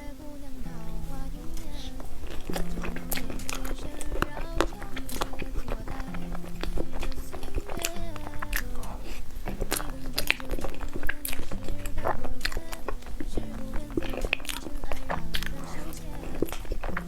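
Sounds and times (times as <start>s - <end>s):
chewing with wet mouth clicks: 1.5s - 17.0s.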